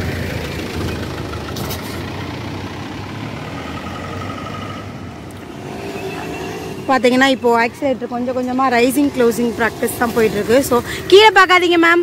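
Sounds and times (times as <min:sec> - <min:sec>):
vehicle passing by: 0:00.0 - 0:11.2.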